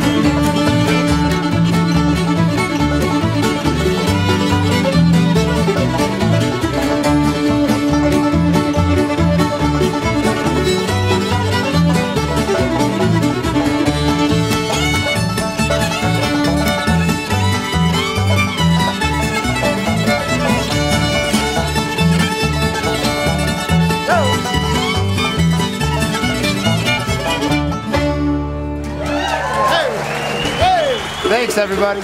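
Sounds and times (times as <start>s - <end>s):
banjo: 0.0s - 29.8s
fiddle: 0.0s - 29.8s
upright bass: 0.0s - 29.9s
guitar: 0.0s - 32.0s.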